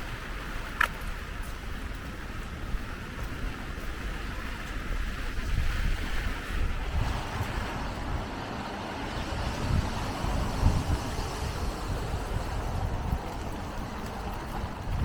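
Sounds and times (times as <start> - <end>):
heavy rain hissing: 0.0 - 15.0
wind buffeting microphone: 0.0 - 15.0.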